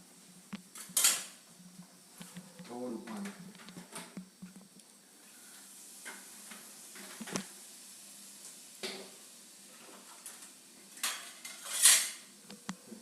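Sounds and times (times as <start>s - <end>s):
gravy sizzling in a pan: 0.0s - 13.0s.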